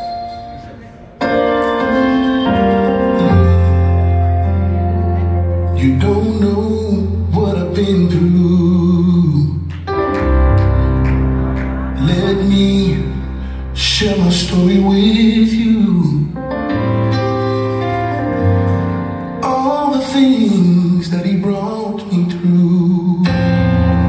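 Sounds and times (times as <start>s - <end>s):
keyboard: 0.0s - 24.0s.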